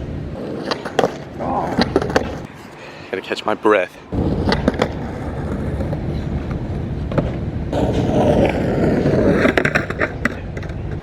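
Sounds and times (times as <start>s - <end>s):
skateboard wheels on rough pavement: 0.0s - 2.8s, 4.1s - 11.0s
skateboard clacks: 0.4s - 2.5s, 4.2s - 11.0s.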